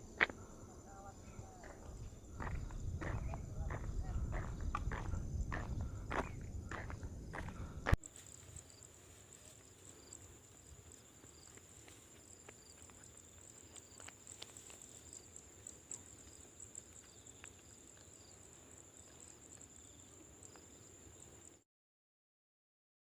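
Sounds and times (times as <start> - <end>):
high-pitched insect trill: 0.0 - 21.6.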